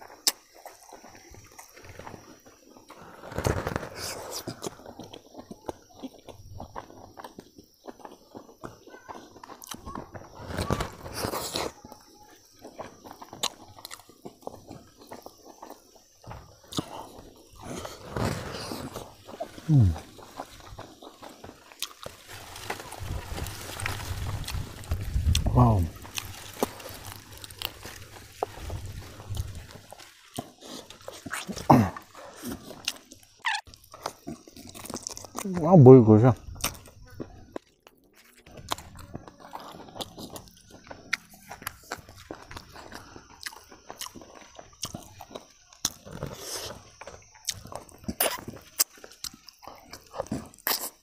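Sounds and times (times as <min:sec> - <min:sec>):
man chewing: 0:00.0 - 0:35.6, 0:36.5 - 0:51.0.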